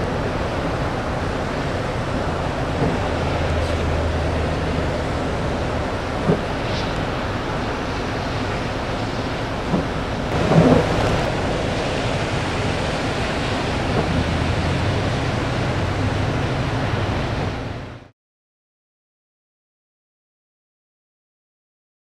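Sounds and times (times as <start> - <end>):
expressway traffic rushing: 0.0 - 18.1
low engine hum: 0.0 - 18.1.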